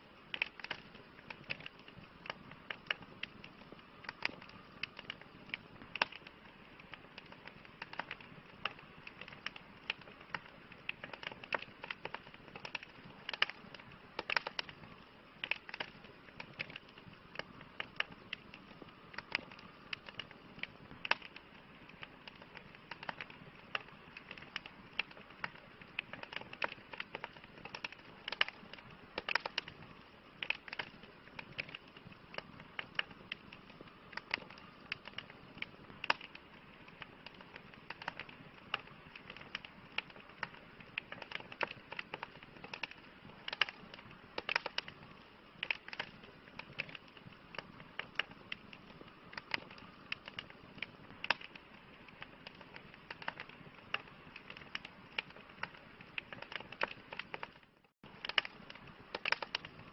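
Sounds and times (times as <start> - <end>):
campfire crackling: 0.0 - 59.9
soft hiss of burning: 0.0 - 59.9.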